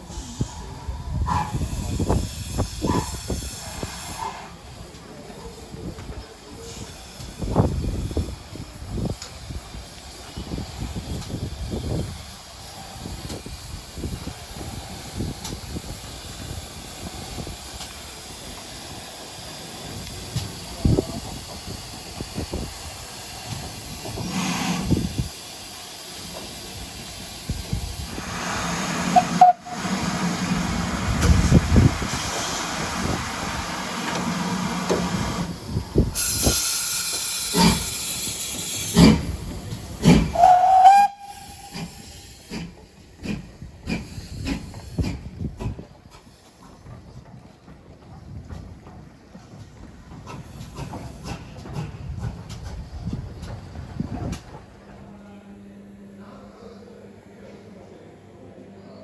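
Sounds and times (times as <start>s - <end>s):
steam hissing in bursts: 0.0s - 46.4s, 50.3s - 53.1s.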